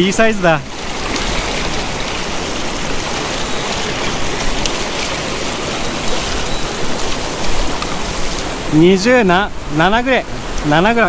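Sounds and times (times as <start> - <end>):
stream water rushing over rocks: 0.0 - 11.0.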